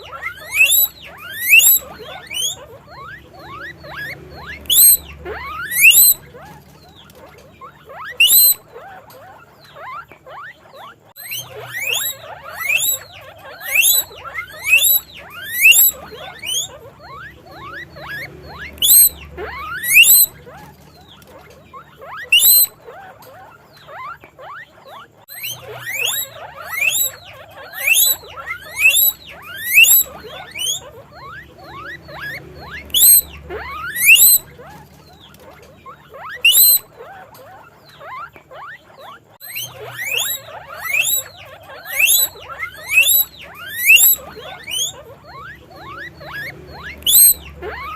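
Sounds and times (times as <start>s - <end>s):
guinea pig squeaking: 0.0s - 47.9s.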